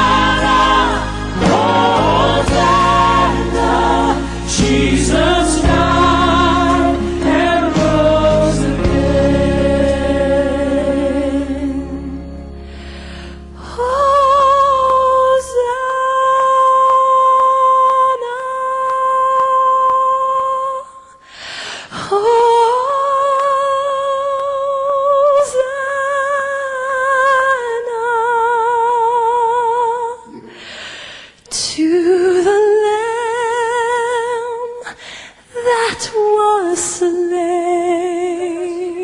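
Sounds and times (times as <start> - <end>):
person singing gospel song: 0.0 - 39.0.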